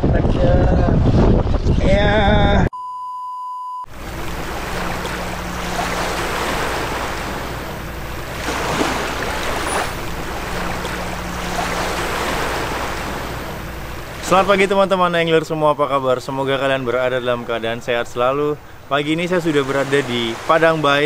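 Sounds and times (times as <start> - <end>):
sea waves on the shore: 3.9 - 21.0.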